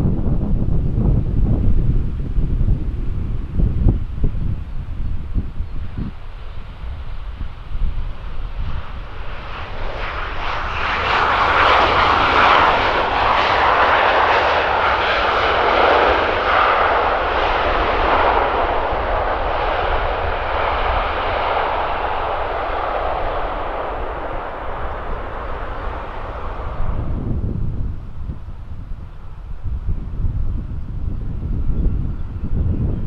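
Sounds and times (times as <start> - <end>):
jet engines roaring: 0.0 - 33.0
wind rumble on microphone: 0.0 - 33.0.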